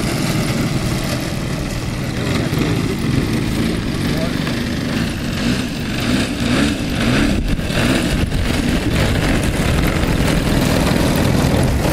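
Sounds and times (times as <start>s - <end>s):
model plane engine idling: 0.0s - 11.9s.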